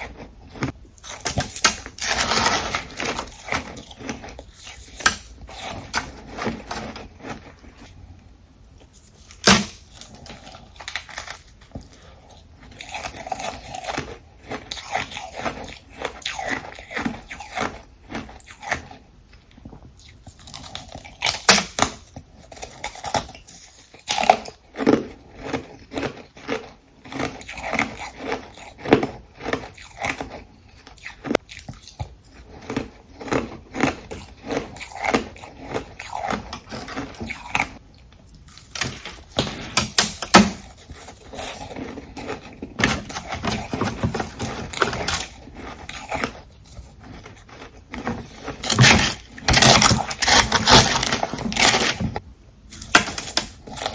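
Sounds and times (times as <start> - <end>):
ice being crunched and chewed: 0.0 - 8.0, 9.0 - 53.9.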